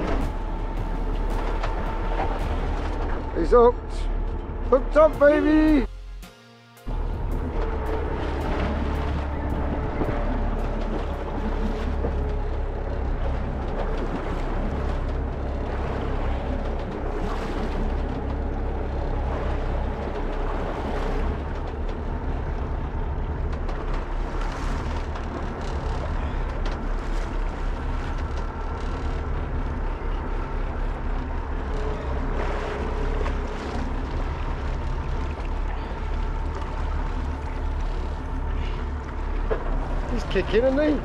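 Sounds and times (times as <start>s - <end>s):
boat engine rumble: 0.0s - 41.0s.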